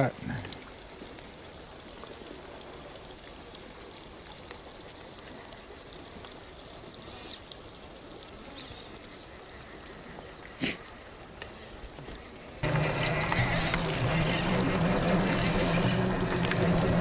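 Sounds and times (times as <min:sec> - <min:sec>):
running water: 0:00.0 - 0:17.0.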